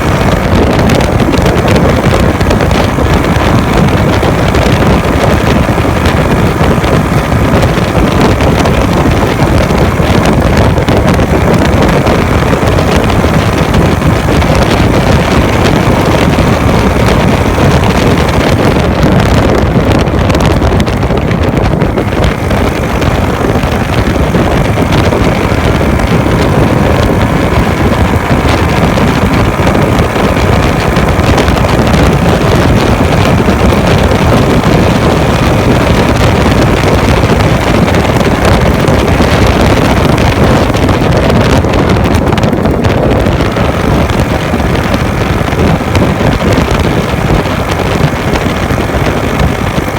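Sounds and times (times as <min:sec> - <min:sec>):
motorcycle engine running: 0:00.0 - 0:49.9
wind rushing over microphone: 0:00.0 - 0:49.9.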